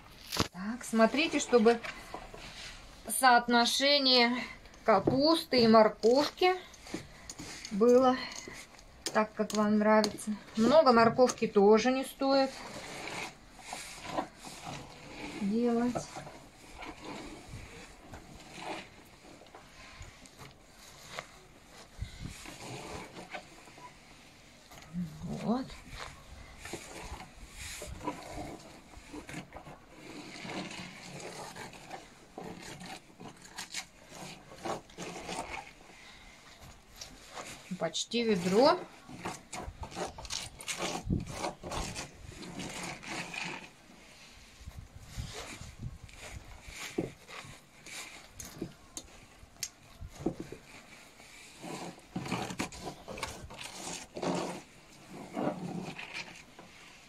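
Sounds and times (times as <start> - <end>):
chopped vegetables rustling and crunching: 0.0 - 57.0.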